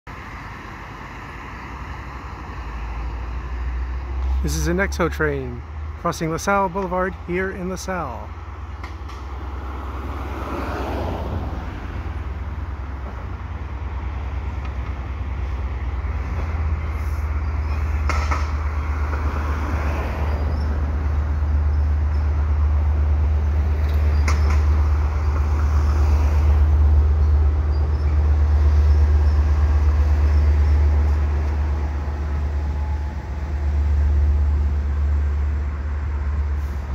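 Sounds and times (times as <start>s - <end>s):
train rumbling over a bridge: 0.1s - 36.9s.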